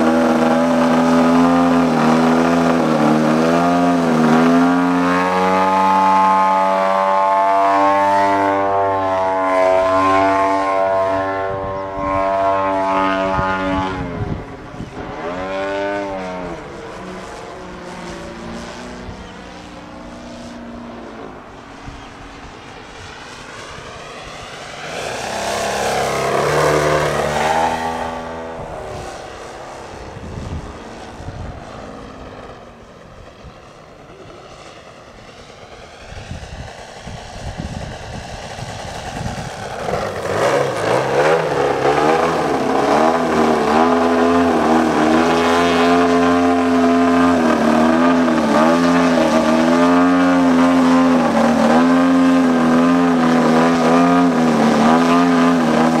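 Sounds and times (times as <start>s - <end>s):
model plane engine and propeller: 0.0s - 56.0s.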